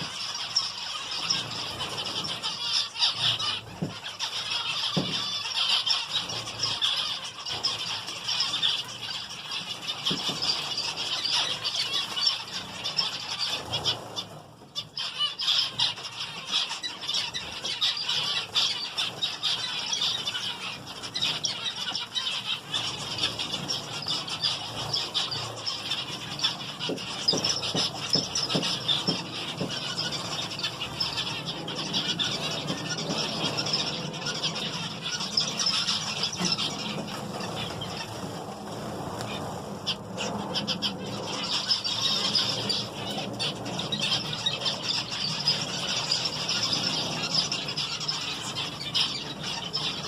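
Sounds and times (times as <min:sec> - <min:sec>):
finches chattering and chirping: 0:00.0 - 0:50.0.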